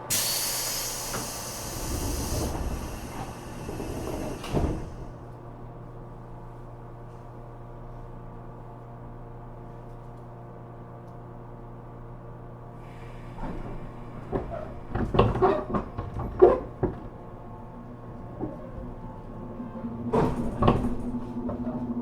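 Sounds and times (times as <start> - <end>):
train electrical hum: 0.0 - 22.0.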